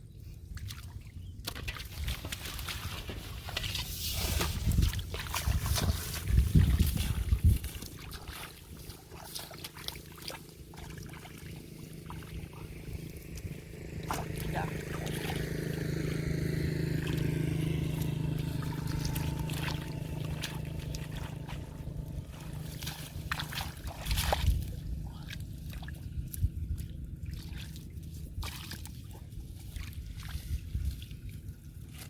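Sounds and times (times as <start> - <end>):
shallow water sloshing and splashing: 0.2 - 32.0
steady low hum: 2.9 - 32.0.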